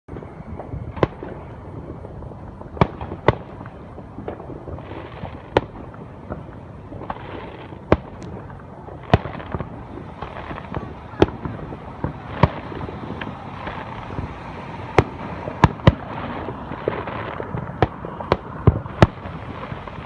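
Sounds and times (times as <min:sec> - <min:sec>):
fireworks bangs: 0:00.1 - 0:20.0
steady background noise: 0:00.1 - 0:20.0.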